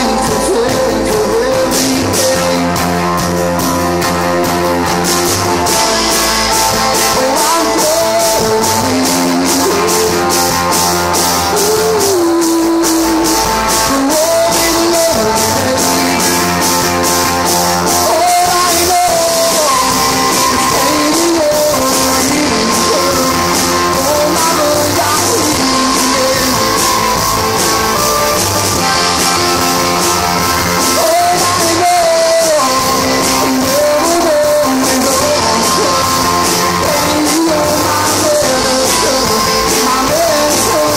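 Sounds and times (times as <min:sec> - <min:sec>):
bass guitar: 0:00.0 - 0:40.9
drum kit with cymbal beat: 0:00.0 - 0:40.9
electric guitar: 0:00.0 - 0:40.9
electric keyboard: 0:00.0 - 0:40.9
male lead vocal: 0:00.0 - 0:40.9.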